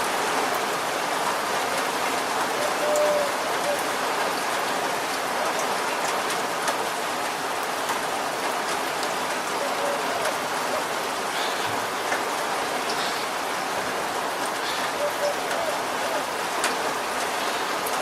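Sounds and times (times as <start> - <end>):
raindrops tapping: 0.0 - 18.0
steady rain falling: 0.0 - 18.0.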